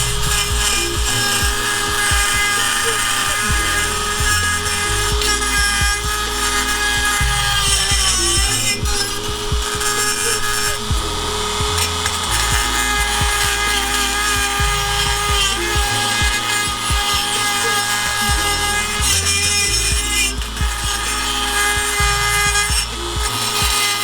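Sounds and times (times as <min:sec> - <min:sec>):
rotary tool grinding metal: 0:00.0 - 0:24.0.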